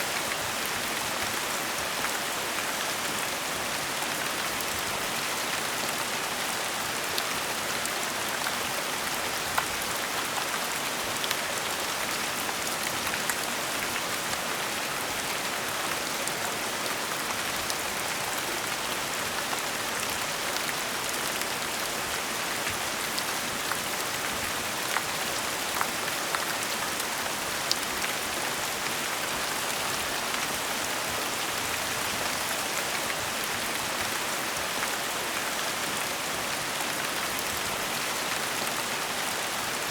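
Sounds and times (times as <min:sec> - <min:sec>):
steady gentle rain: 0:00.0 - 0:39.9.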